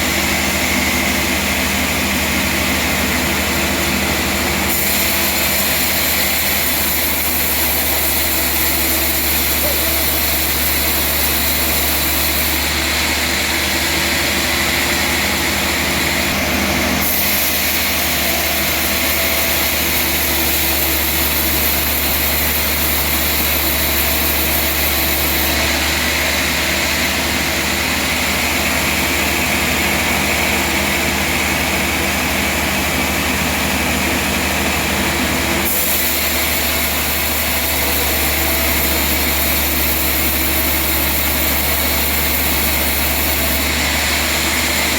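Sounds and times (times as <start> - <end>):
sawmill machinery drone: 0.0 - 44.9.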